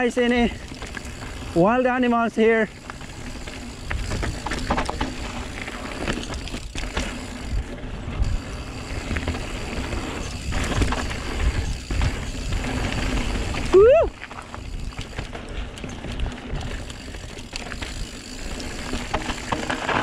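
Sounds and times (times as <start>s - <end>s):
bike clicks and rattles: 0.0s - 20.0s
tyres rumbling on gravel: 0.0s - 20.0s.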